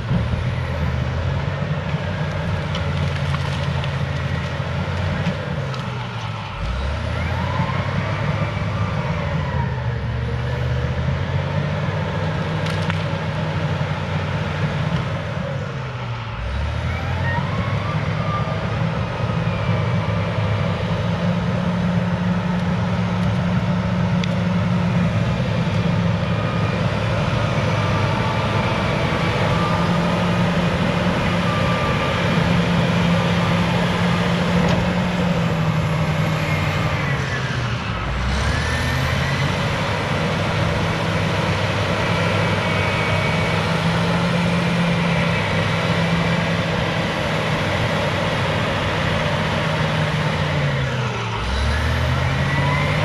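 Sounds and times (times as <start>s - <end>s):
bulldozer diesel engine under load: 0.0s - 53.0s.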